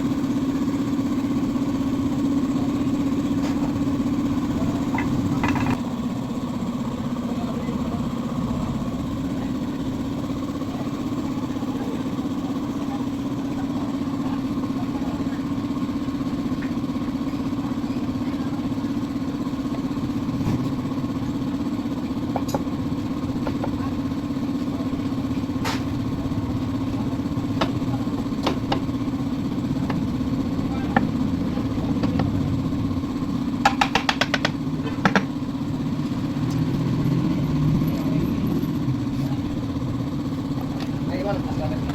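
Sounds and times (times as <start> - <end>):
scooter engine idling: 0.0 - 41.9.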